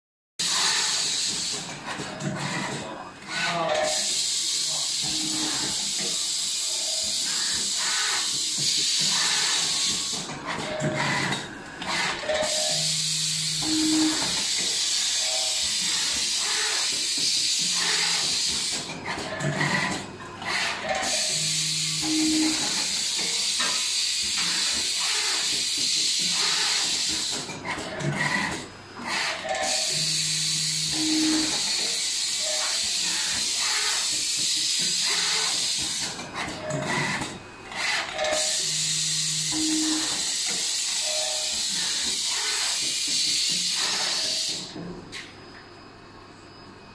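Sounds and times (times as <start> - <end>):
screen printing machine running: 0.4 - 45.6.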